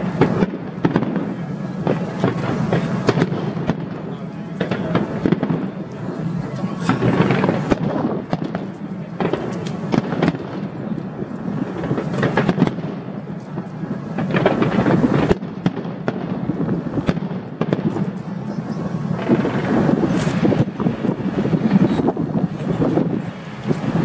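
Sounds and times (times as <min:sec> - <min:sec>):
fireworks bursting and banging: 0:00.0 - 0:24.0.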